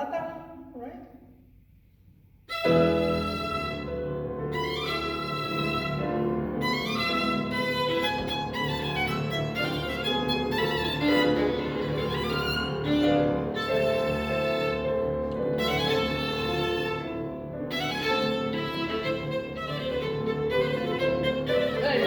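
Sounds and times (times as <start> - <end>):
violin melody: 2.5 - 22.0.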